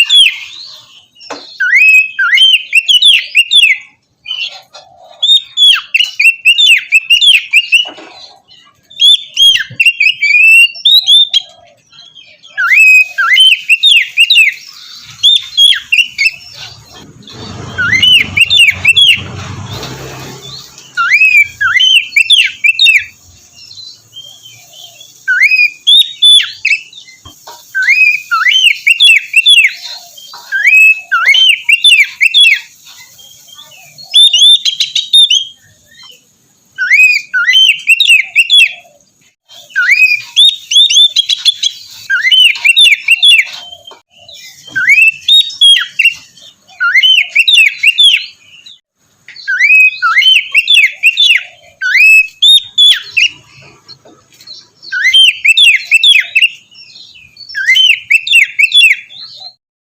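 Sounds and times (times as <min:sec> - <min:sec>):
bird singing whistled notes: 0:00.0 - 0:04.5, 0:05.1 - 0:07.9, 0:08.7 - 0:19.8, 0:20.4 - 0:53.6, 0:54.6 - 0:59.6.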